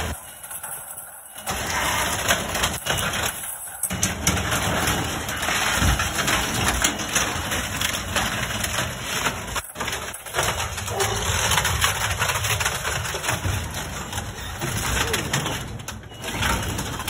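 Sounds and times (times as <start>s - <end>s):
wood cracking and splintering: 0.0s - 17.0s.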